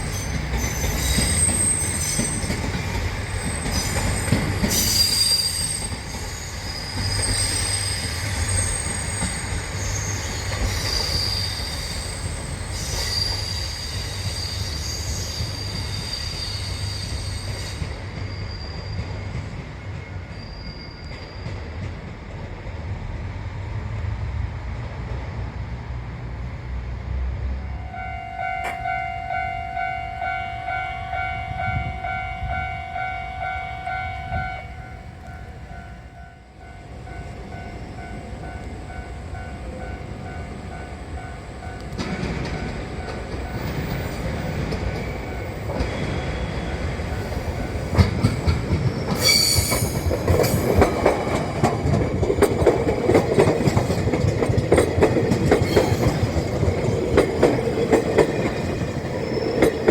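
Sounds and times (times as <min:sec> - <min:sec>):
train rumble and wheel clatter: 0:00.0 - 0:59.9.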